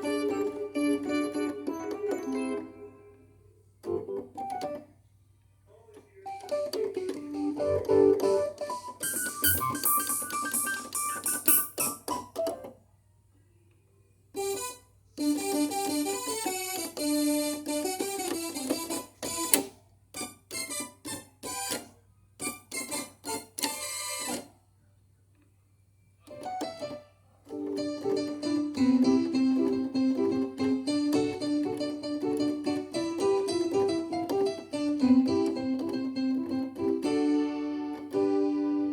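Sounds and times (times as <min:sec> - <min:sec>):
keyboard playing piano phrases: 0:00.0 - 0:05.0, 0:05.7 - 0:12.8, 0:14.4 - 0:24.4, 0:26.2 - 0:38.9.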